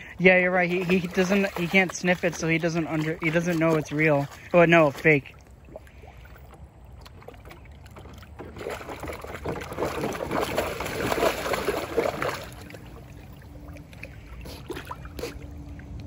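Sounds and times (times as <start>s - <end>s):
water sloshing and dripping: 0.0s - 16.0s
dog splashing in water: 0.3s - 16.0s.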